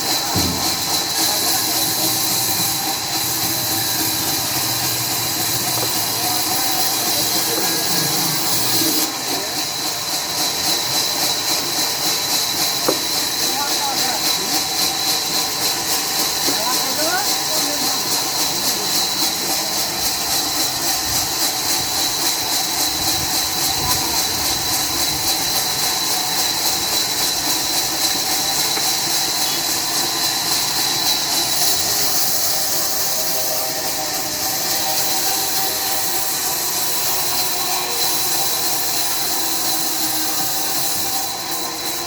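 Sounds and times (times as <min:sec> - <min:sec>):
sawmill machinery tones: 0:00.0 - 0:42.0.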